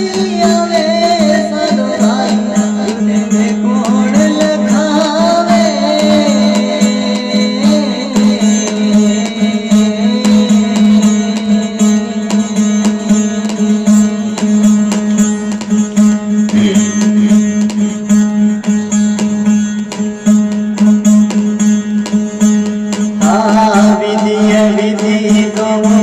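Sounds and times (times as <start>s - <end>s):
plucked string instrument: 0.0s - 26.0s.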